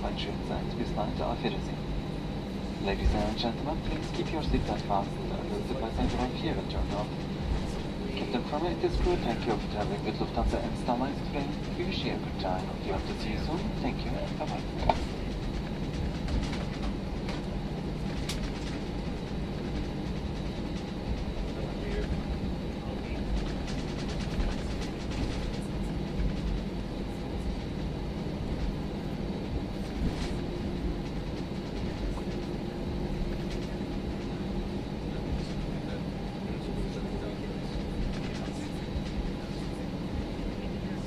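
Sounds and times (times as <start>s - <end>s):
aircraft cabin rumble: 0.0s - 41.0s.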